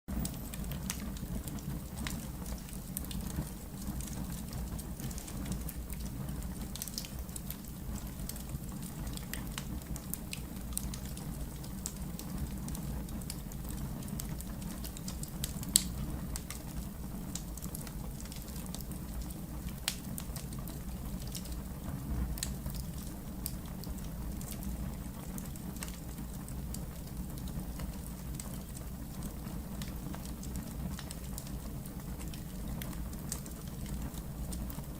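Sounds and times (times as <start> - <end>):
fire crackling: 0.1 - 34.9.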